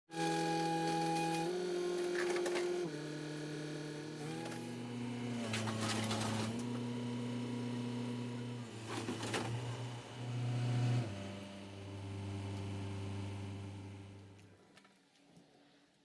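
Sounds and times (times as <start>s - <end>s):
excavator engine and hydraulics whine: 0.2s - 14.6s.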